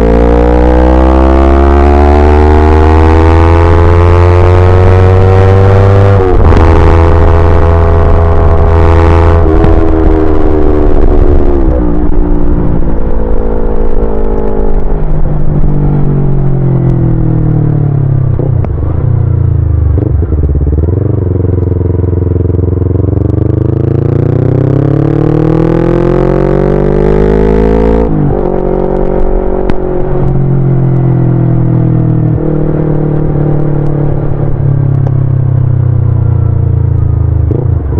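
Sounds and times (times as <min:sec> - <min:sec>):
motorcycle engine running: 0:01.7 - 0:37.9.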